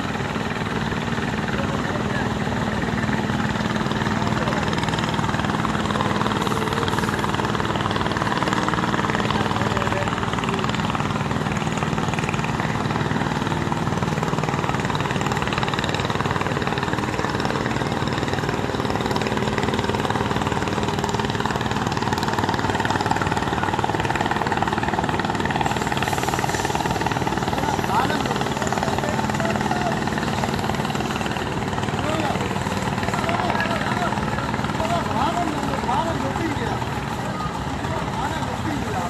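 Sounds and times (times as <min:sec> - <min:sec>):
engines droning: 0:00.0 - 0:39.0.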